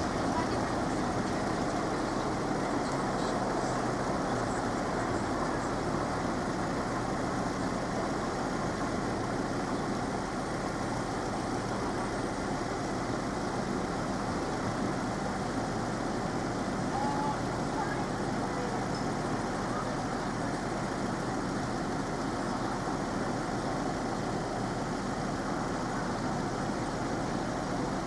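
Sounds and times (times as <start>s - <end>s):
road traffic noise: 0.0s - 28.0s
vehicle engines running close by: 0.0s - 28.0s.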